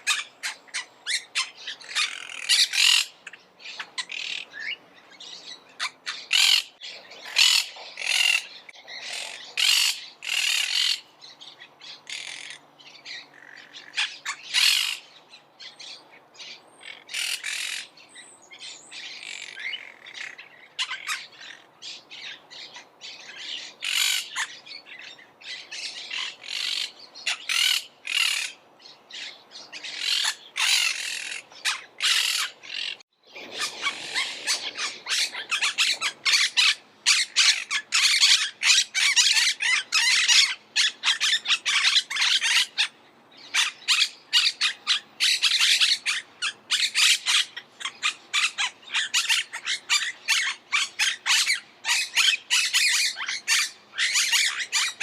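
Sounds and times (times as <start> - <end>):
parakeets squawking: 0.0 - 11.1, 11.8 - 15.1, 16.8 - 17.9, 19.0 - 55.0.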